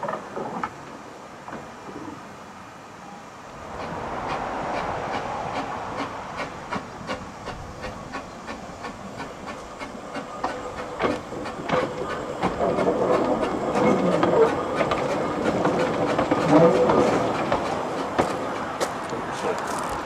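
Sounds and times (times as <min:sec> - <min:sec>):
steam locomotive hiss: 0:01.7 - 0:20.0
train wheels clicking over rail joints: 0:03.6 - 0:20.0.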